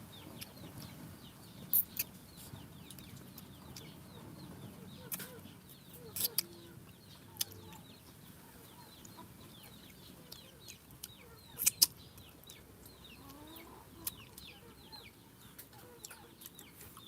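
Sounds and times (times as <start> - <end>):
chicks peeping: 0.0 - 17.0
faint low chicken cluck: 1.7 - 17.0.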